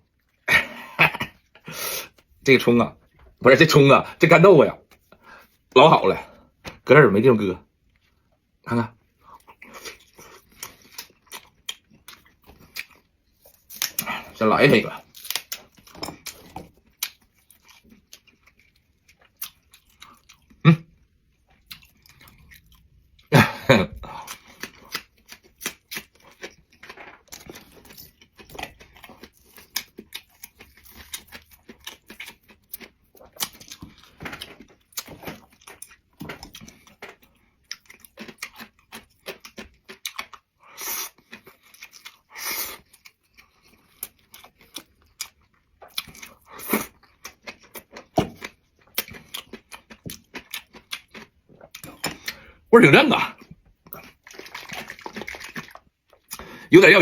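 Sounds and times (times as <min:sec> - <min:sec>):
person chewing and crunching food: 0:07.7 - 0:57.0.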